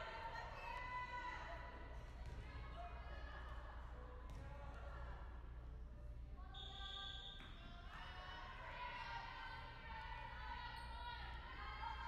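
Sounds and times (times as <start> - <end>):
voices echoing in a gym: 0.0 - 12.0.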